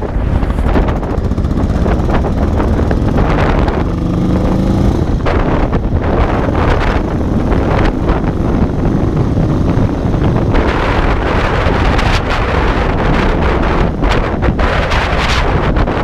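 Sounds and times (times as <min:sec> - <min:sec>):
motorcycle engine rumble: 0:00.0 - 0:16.0
wind buffeting microphone: 0:00.0 - 0:16.0.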